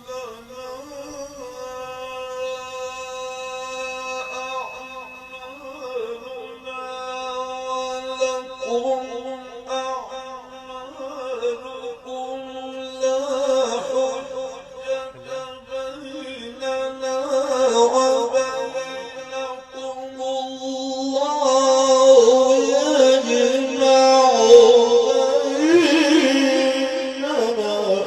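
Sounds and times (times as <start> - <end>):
man chanting melodic recitation: 0.0 - 28.0.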